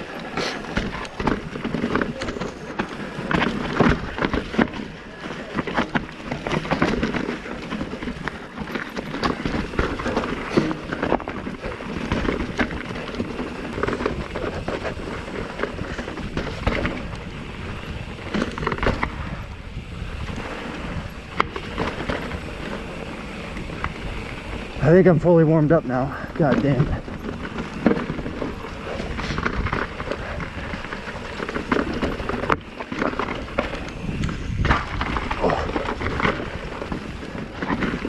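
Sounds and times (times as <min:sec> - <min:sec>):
bike rattling over rocks: 0:00.0 - 0:38.0.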